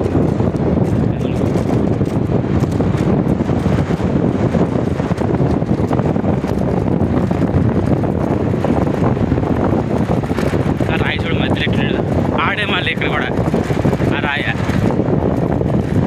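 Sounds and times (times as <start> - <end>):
vehicle running: 0.0 - 16.0
wind rumble on microphone: 0.0 - 16.0.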